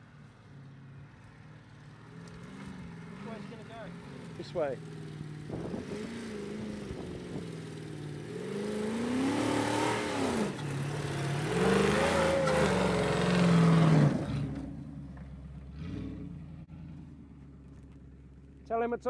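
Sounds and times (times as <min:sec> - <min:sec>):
car engine revving: 0:02.0 - 0:18.4.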